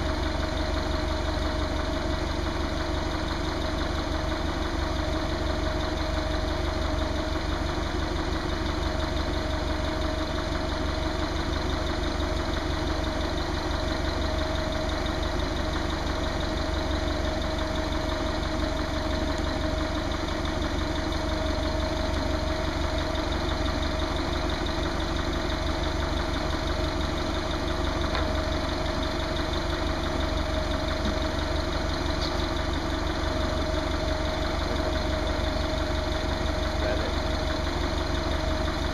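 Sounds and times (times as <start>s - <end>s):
forklift engine idling: 0.0s - 38.9s.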